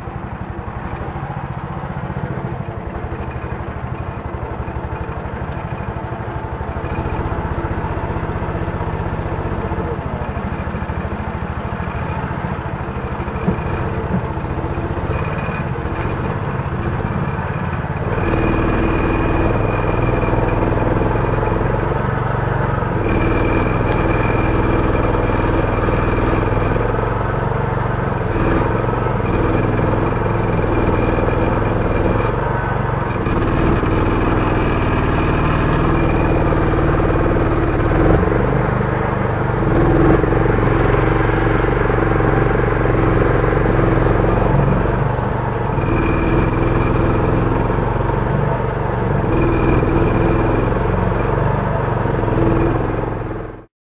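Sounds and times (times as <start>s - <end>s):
outboard motor running: 0.0s - 53.7s.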